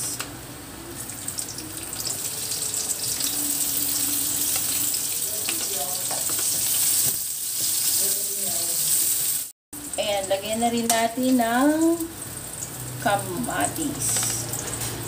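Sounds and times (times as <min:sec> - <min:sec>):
onion sizzling in hot oil: 0:00.9 - 0:15.0.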